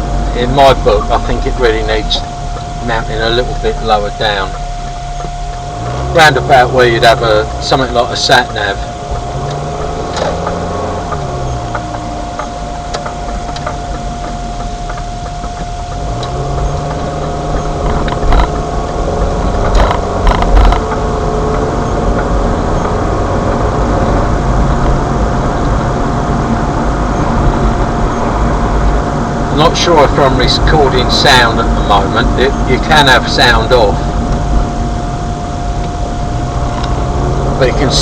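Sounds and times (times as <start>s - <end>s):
car engine and road rumble: 0.0s - 38.0s
steady high whine: 0.0s - 38.0s.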